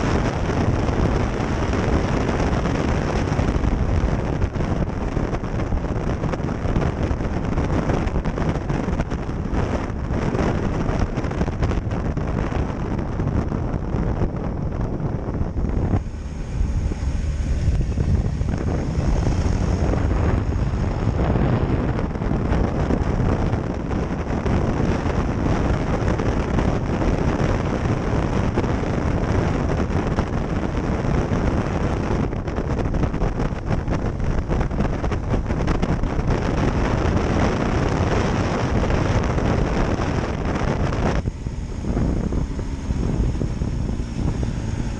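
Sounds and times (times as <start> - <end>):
motorcycle engine: 0.0 - 44.9
wind rushing on microphone: 0.0 - 44.9.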